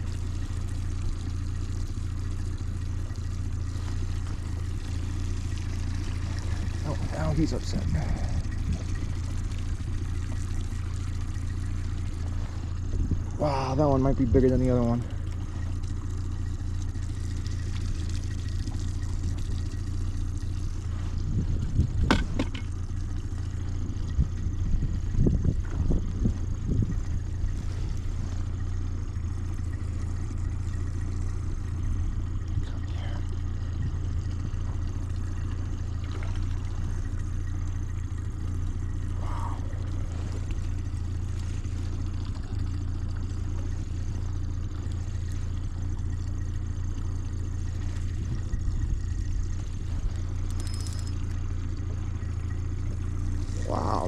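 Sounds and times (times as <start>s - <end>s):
outboard motor humming: 0.0s - 54.0s.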